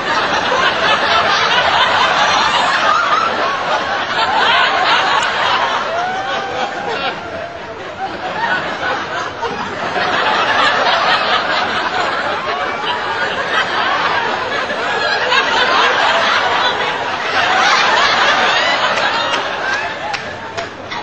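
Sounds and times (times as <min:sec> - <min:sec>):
crowd laughing and chattering: 0:00.0 - 0:21.0.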